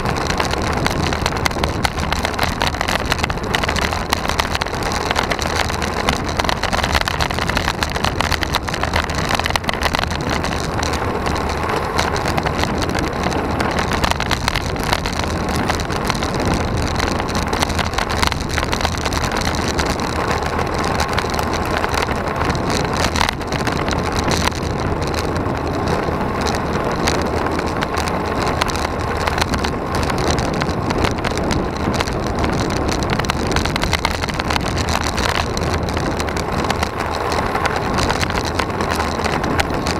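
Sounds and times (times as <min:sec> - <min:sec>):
bike tyres on asphalt: 0:00.0 - 0:39.9
wind rush on microphone: 0:00.0 - 0:39.9.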